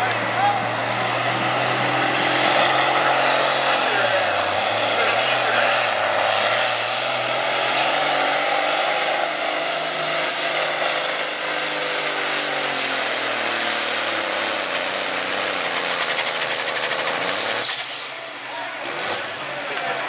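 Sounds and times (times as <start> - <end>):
tractor diesel engine at full throttle: 0.0 - 20.0.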